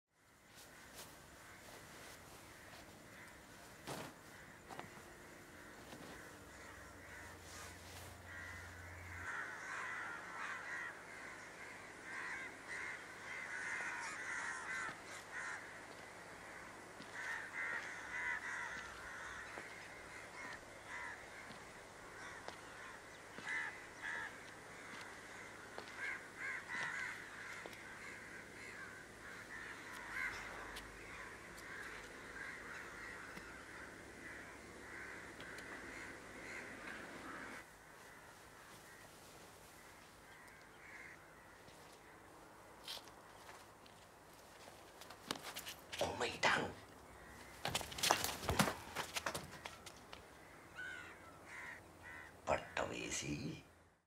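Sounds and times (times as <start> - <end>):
crows cawing: 0.2 - 53.9.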